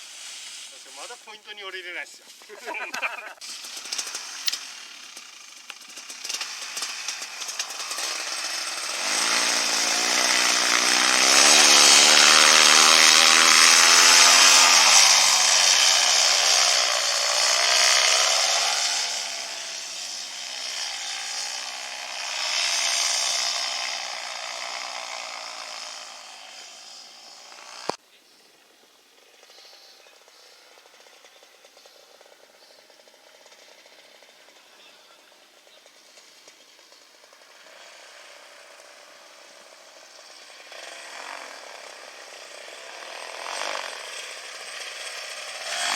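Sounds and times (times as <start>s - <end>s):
small engine revving: 0.0s - 28.0s, 28.6s - 45.9s.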